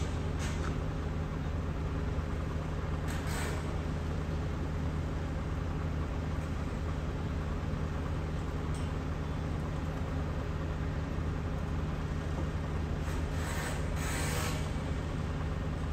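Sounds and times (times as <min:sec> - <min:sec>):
excavator diesel engine running: 0:00.0 - 0:15.9.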